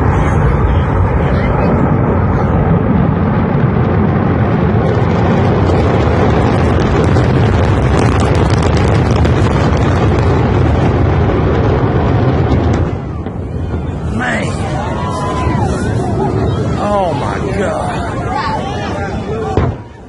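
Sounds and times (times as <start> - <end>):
rocket roar with crackling: 0.0 - 20.0.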